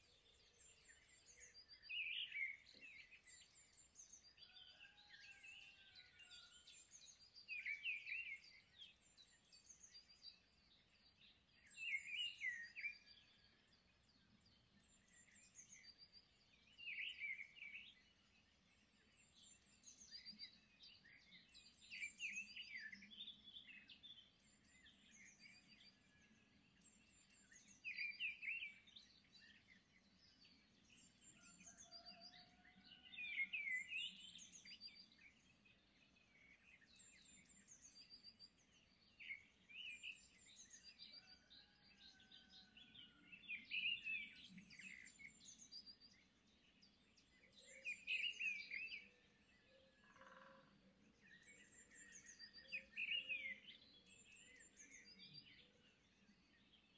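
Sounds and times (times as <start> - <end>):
birds chirping and twittering: 0.0 - 56.9.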